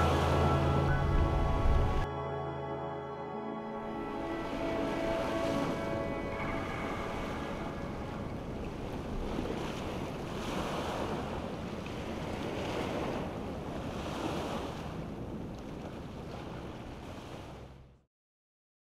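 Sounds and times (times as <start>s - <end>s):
waves washing over rocks: 0.0s - 2.0s, 4.4s - 17.7s.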